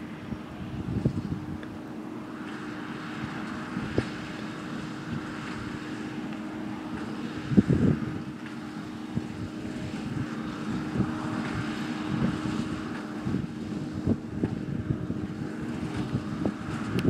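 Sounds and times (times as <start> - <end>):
tractor engine running under load: 0.0 - 17.0
wind on microphone: 0.0 - 17.0.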